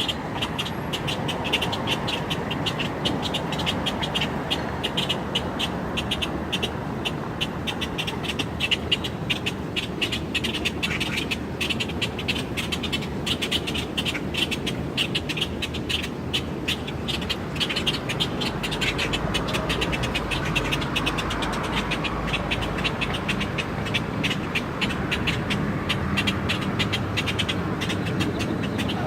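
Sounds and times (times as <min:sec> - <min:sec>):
low rumble of city traffic: 0:00.0 - 0:29.0
small birds chirping: 0:00.0 - 0:29.0.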